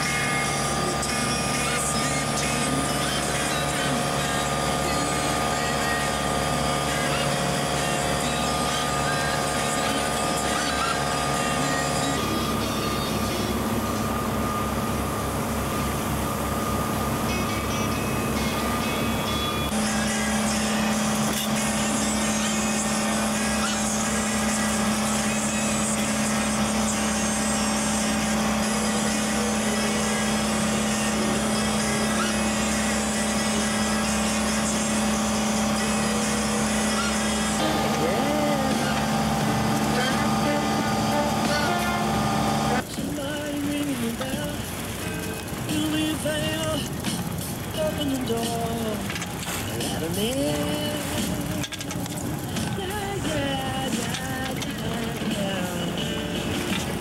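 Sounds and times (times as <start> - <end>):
constant hum: 0.0 - 57.0
motor boat engine droning: 0.0 - 57.0.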